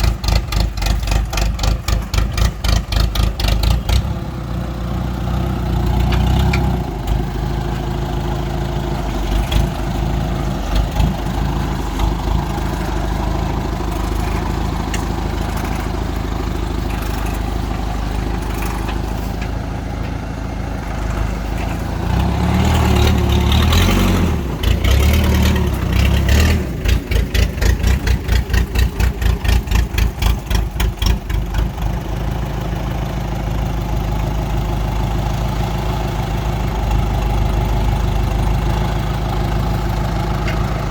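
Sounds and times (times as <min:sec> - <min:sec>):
loader engine running: 0:00.0 - 0:40.9
engine rhythmic pulsing: 0:05.1 - 0:40.9.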